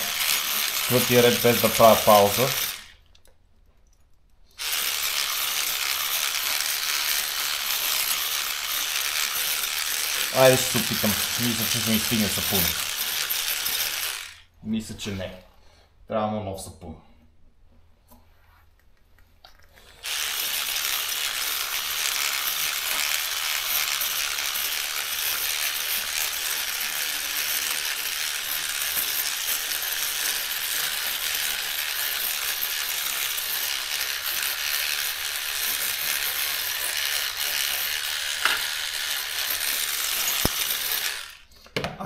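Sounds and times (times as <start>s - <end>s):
electric cleaning brush scrubbing: 0.0s - 3.0s, 4.6s - 14.4s, 19.8s - 41.5s.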